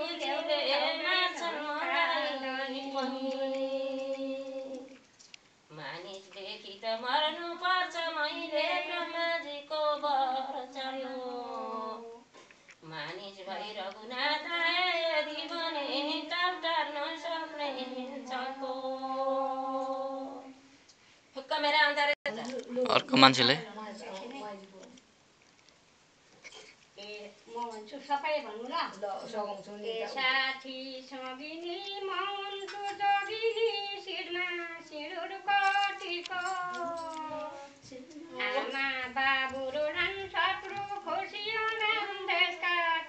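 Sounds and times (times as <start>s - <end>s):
woman singing unaccompanied: 0.0s - 5.1s, 5.7s - 20.7s, 21.4s - 23.0s, 23.6s - 25.0s, 27.0s - 43.0s.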